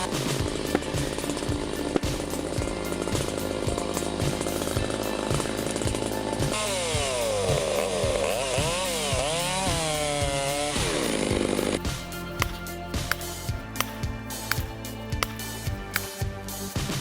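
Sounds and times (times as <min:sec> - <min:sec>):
chainsaw cutting wood: 0:00.0 - 0:16.6
background music with beat: 0:00.0 - 0:17.0.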